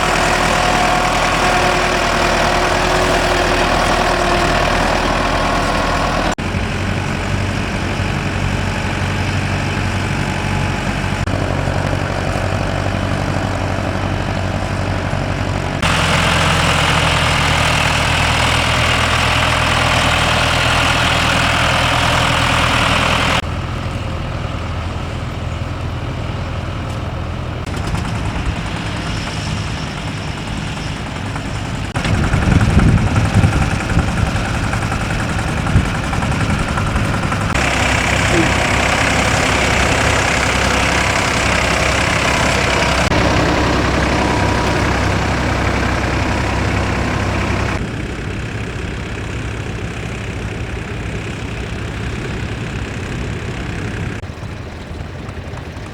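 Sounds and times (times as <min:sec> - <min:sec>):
tractor engines running: 0:00.0 - 0:55.9.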